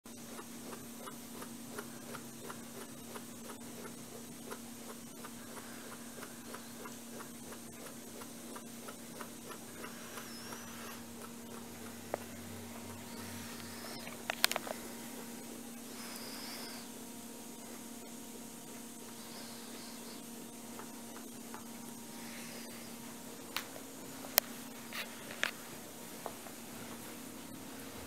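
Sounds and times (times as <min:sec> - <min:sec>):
faint regular ticking: 0:00.1 - 0:27.3
steady low hum: 0:00.1 - 0:28.0.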